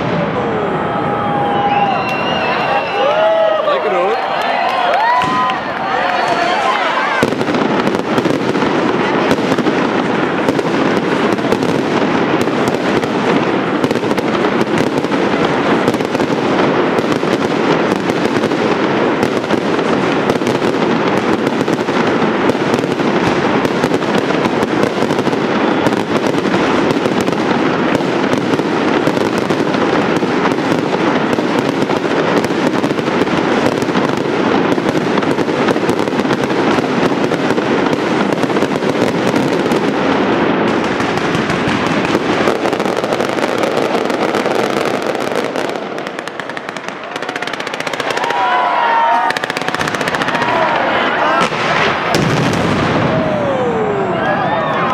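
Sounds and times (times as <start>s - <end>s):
fireworks crackles and bangs: 0.0s - 54.9s.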